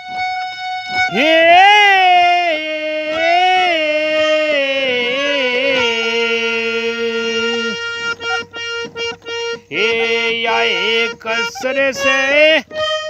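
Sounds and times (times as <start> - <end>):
harmonium held notes: 0.0 - 13.0
person singing sliding vowel: 1.1 - 13.0.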